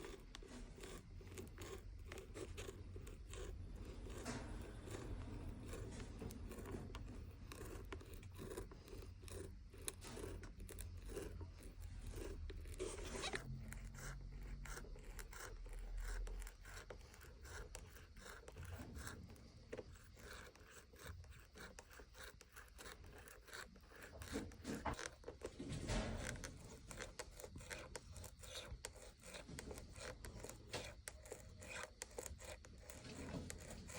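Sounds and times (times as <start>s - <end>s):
blade cutting leather: 0.0s - 33.9s.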